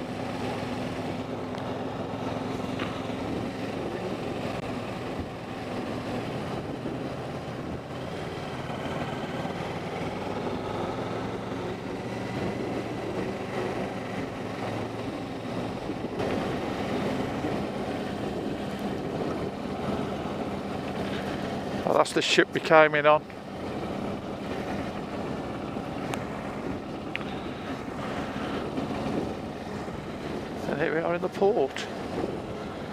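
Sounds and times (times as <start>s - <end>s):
motorcycle engine running: 0.0s - 32.9s
wind and road noise: 0.0s - 32.9s.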